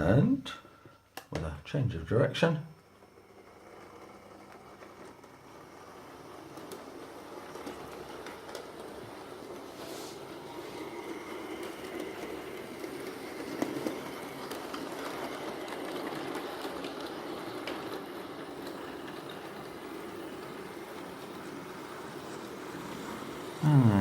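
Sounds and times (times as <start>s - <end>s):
model train motor and wheels: 1.9s - 24.0s
wheels clicking on rails: 2.8s - 24.0s.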